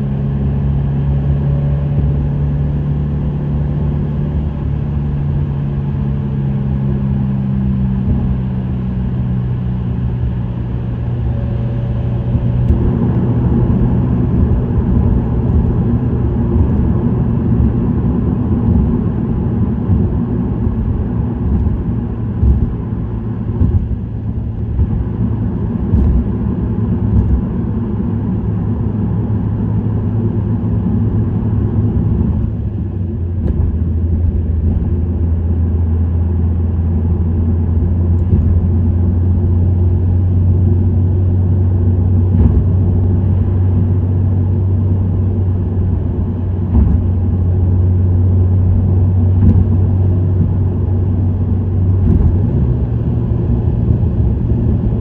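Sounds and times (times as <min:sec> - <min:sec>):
car exhaust drone: 0:00.0 - 0:55.0
road noise: 0:00.0 - 0:55.0.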